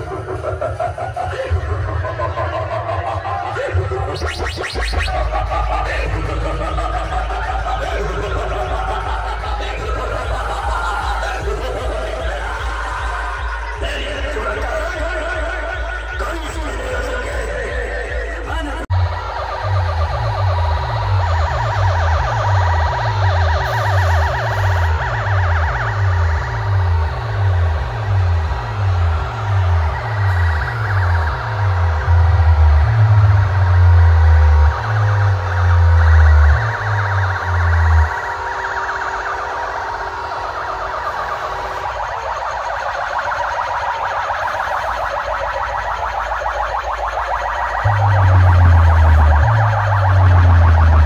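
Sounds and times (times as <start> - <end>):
heavy bass beat: 0.0 - 51.0
warbling siren-like effect: 0.0 - 51.0.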